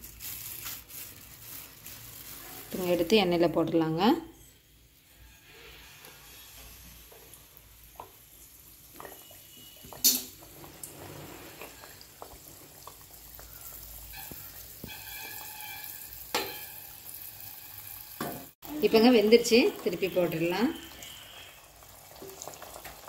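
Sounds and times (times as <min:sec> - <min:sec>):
dough sizzling in hot oil: 0:00.0 - 0:23.0.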